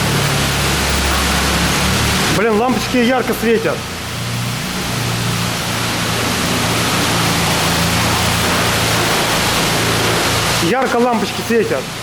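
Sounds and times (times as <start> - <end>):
high-pressure water spraying: 0.0 - 12.0.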